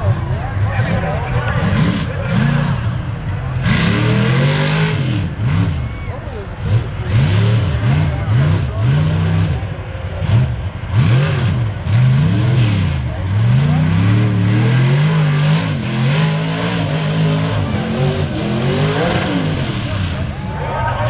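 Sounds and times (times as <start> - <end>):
engine revving hard: 0.0 - 21.0.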